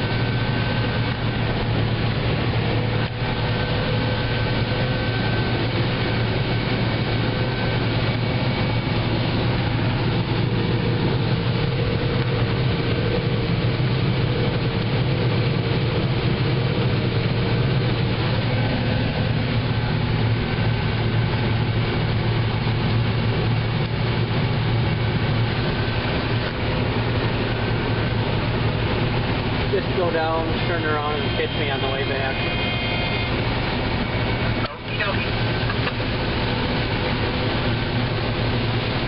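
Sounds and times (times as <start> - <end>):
combine engine drone: 0.0 - 39.0
machinery hum: 0.0 - 39.0.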